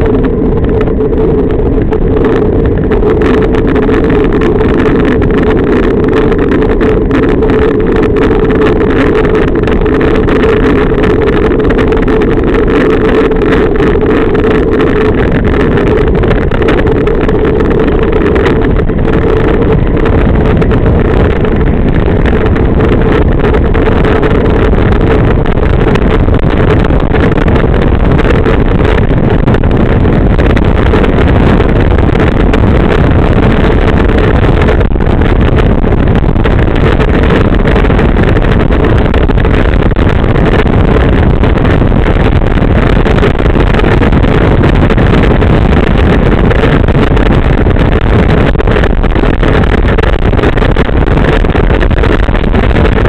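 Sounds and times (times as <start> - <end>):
low hum: 0.0 - 53.0
wind rushing over microphone: 0.0 - 53.0.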